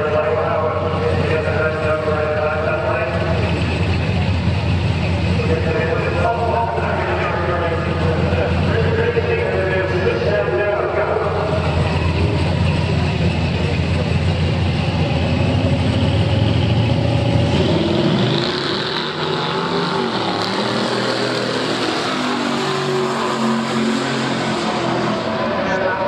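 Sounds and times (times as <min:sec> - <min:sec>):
distant engine drone: 0:00.0 - 0:26.0
drag race car engines rumbling: 0:00.0 - 0:26.0.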